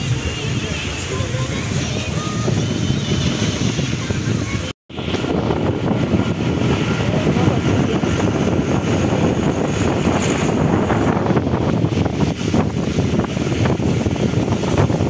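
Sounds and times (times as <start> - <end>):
vehicle engine and road noise: 0.0 - 15.0
wind buffeting microphone: 0.0 - 15.0.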